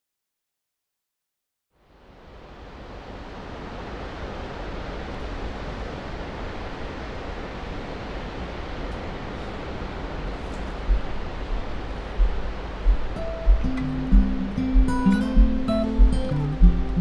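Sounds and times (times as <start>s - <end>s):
outdoor rushing noise with rumble: 2.0s - 17.0s.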